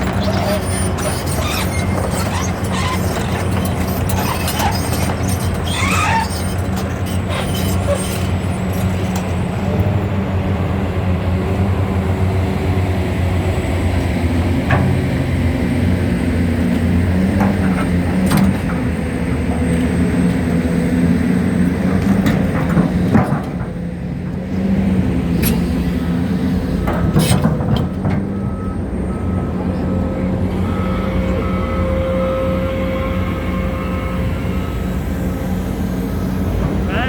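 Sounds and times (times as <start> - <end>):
excavator diesel engine under load: 0.0 - 37.0.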